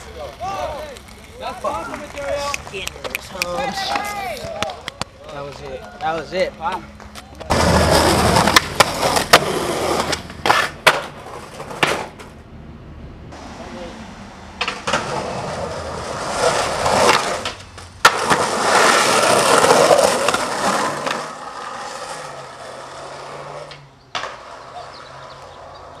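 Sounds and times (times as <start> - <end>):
skateboard clacking on ground: 0.0 - 12.4, 14.6 - 25.9
skateboard wheels rolling on concrete: 0.0 - 26.0.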